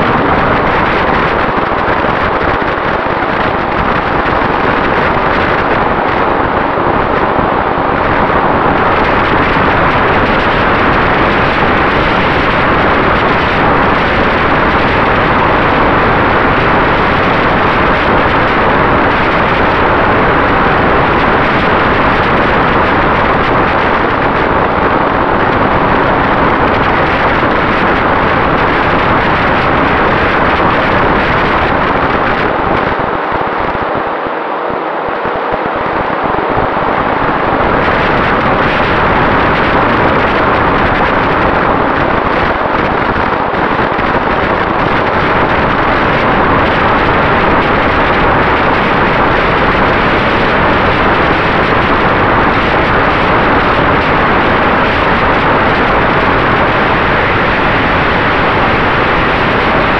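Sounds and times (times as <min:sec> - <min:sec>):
airflow rushing over microphone: 0:00.0 - 0:59.9.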